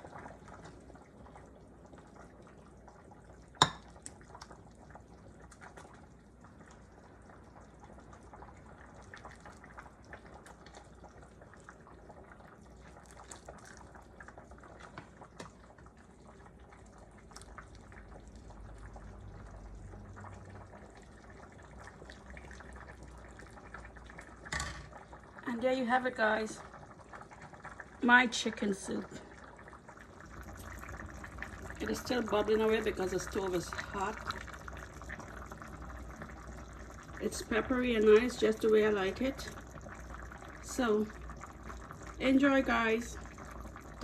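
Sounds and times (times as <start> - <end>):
soup bubbling in a pot: 0.0 - 44.0.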